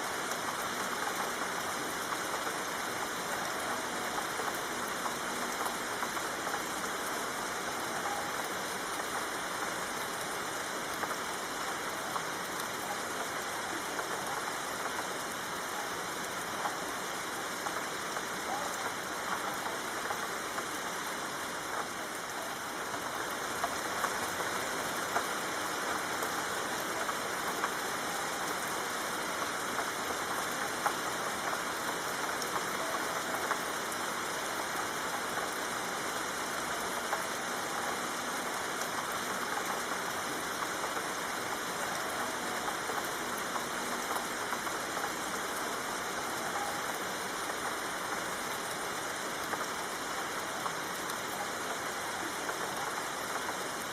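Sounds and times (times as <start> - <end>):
soft rain hissing: 0.0 - 53.9
raindrop ticks: 0.1 - 53.9.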